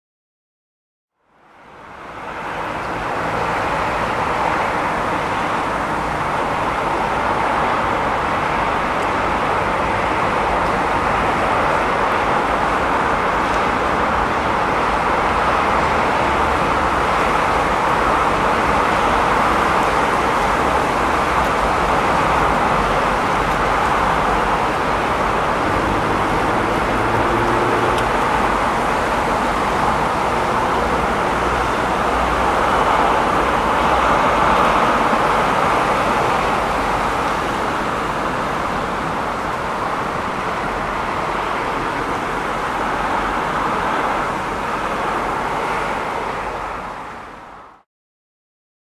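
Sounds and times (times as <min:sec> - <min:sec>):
passing cars and engine noise: 0:01.2 - 0:47.8.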